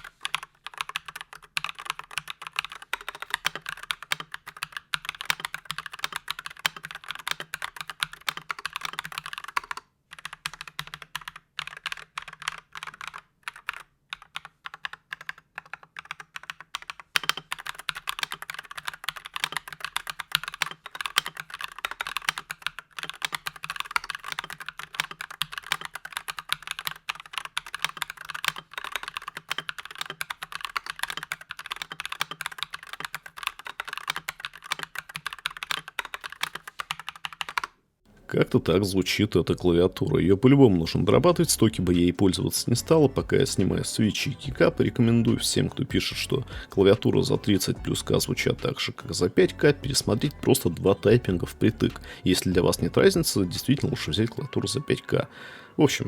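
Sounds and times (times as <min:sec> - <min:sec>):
typing on mechanical keyboard: 0:00.0 - 0:37.8, 0:40.0 - 0:55.3.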